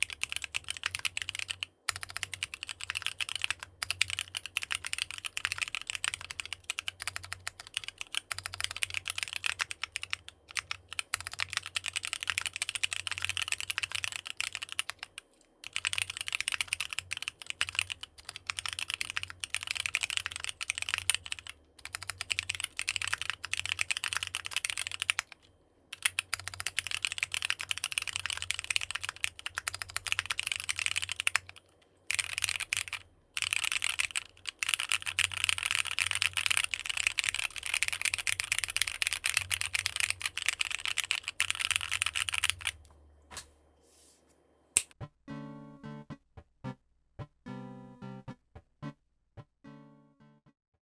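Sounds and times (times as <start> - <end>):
fast typing on mechanical keyboard: 0.0 - 42.8.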